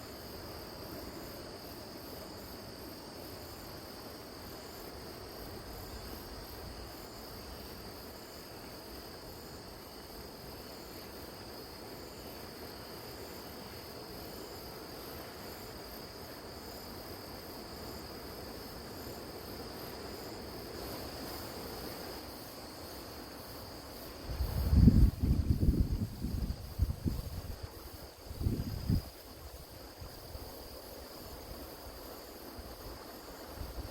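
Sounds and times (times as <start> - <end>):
crickets trilling: 0.0 - 33.9
pulsing insect chirp: 0.0 - 33.9.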